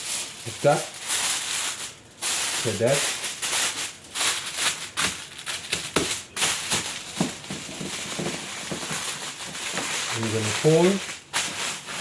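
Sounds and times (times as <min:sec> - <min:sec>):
aluminium foil crumpling: 0:00.0 - 0:12.0.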